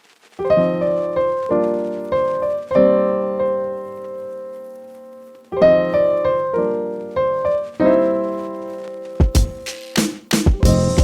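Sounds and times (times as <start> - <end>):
gentle piano music: 0.4 - 11.0.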